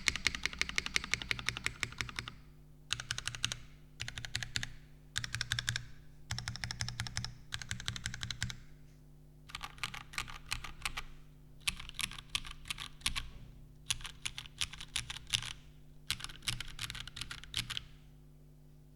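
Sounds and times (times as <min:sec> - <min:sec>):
mechanical keyboard typing: 0:00.0 - 0:08.6, 0:09.5 - 0:18.0.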